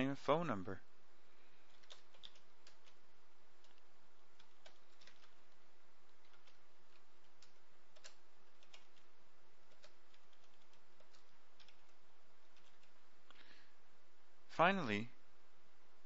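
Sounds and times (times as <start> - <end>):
faint hiss and hum: 0.0 - 16.0.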